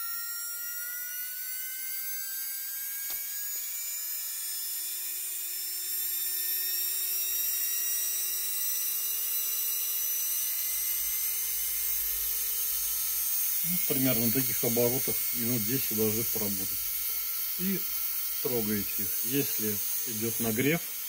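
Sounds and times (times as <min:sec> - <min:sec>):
drill motor whining: 0:00.0 - 0:21.0.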